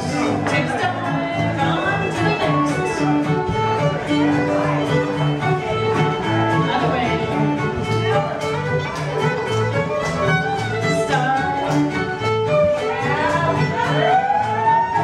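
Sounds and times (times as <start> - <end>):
fiddle melody: 0.0 - 15.0
string band playing dance tune: 0.0 - 15.0.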